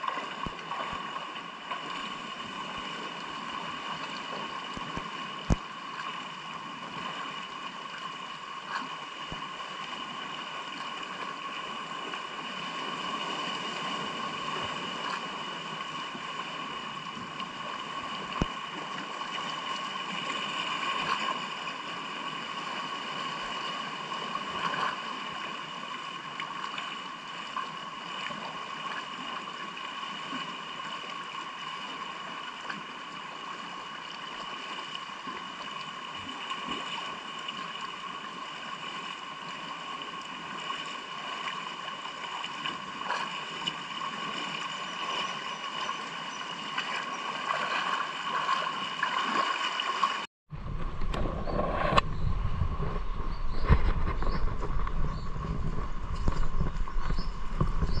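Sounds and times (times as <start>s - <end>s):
surf washing around rocks: 0.0s - 58.0s.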